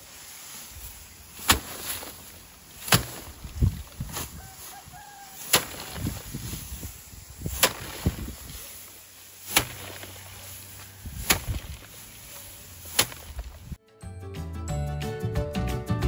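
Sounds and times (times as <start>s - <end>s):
straw rustling: 0.0s - 13.8s
rice stalks whacked on wooden frame: 0.2s - 13.8s.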